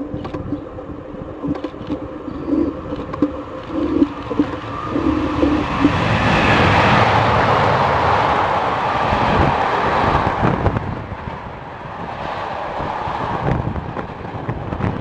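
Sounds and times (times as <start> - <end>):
train rushing past: 2.3 - 15.0.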